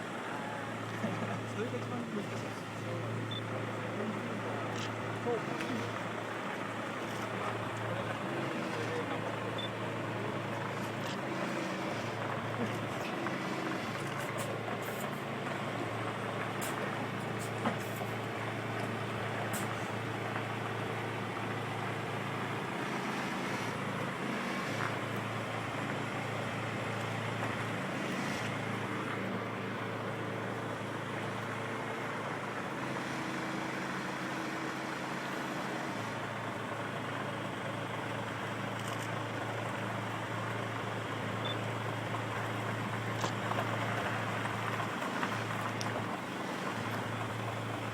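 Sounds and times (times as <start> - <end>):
truck diesel engine drone: 0.0 - 47.9.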